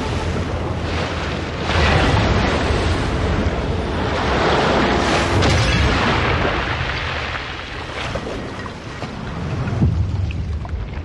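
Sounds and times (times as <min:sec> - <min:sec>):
deep rumble: 0:00.0 - 0:11.0
water surging and bursting: 0:00.0 - 0:11.0.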